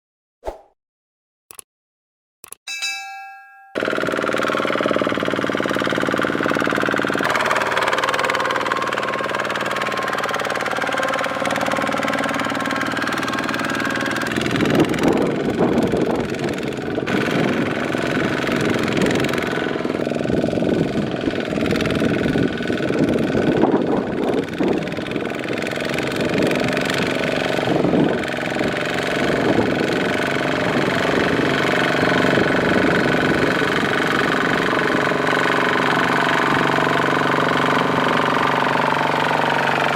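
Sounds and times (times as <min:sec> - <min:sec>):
diesel tractor engine running: 0:03.8 - 0:23.5, 0:24.1 - 0:39.9.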